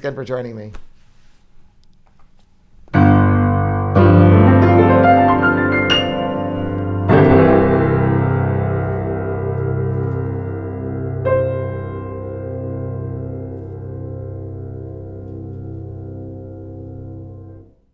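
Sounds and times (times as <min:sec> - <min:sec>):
piano chords: 0:02.9 - 0:17.9.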